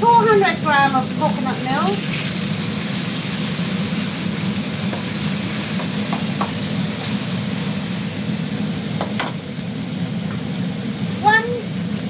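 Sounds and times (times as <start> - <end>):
coconut milk sizzling in a pan: 0.0 - 12.0.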